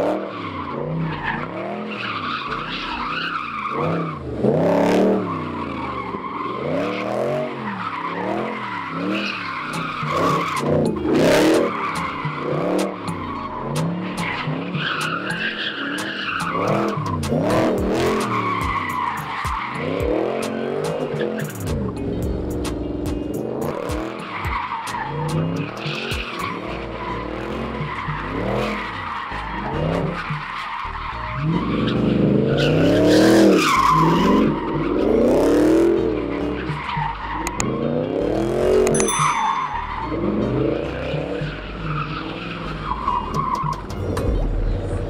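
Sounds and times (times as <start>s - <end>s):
car engine revving: 0.0s - 38.9s
tyres squealing on pavement: 0.3s - 4.3s, 5.2s - 21.5s, 24.0s - 37.9s, 39.8s - 44.2s.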